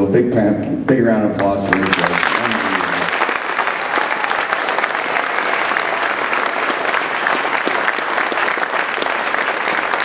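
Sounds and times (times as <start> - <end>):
crowd applauding: 1.4 - 10.0.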